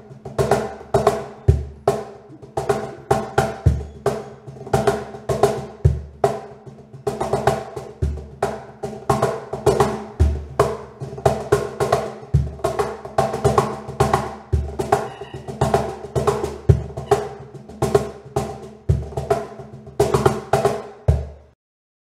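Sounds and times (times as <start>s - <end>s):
deep cajon bass stroke: 0.2s - 21.4s.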